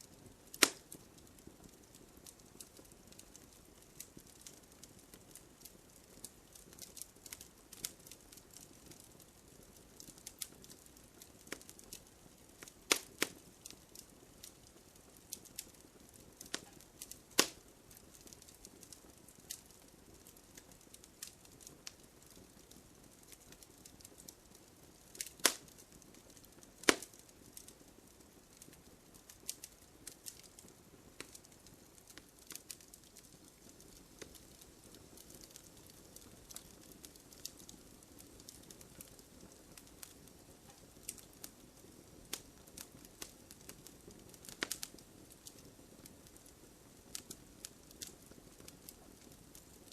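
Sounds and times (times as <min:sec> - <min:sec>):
campfire crackling: 0:00.0 - 0:49.9
sharp pops of fire: 0:00.2 - 0:49.9.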